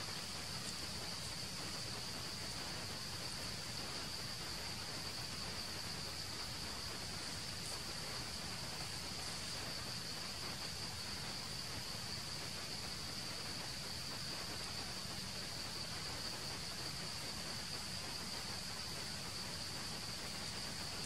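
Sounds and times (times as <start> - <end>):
insects droning: 0.0 - 21.0
outdoor hiss: 0.0 - 21.0.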